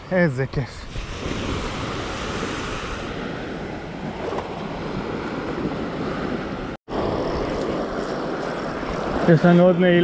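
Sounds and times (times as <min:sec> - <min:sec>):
wind noise on microphone: 0:00.8 - 0:09.3
sea surf washing onto beach: 0:00.8 - 0:10.0.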